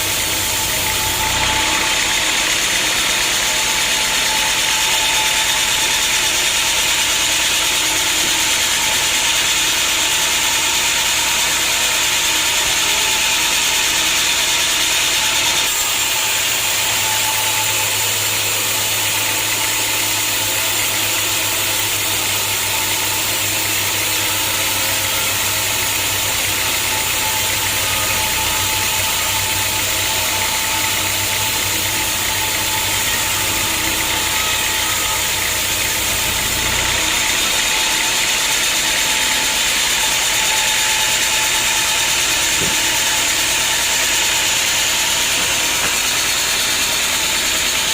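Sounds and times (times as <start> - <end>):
sawmill sawing a log: 0.0 - 47.9.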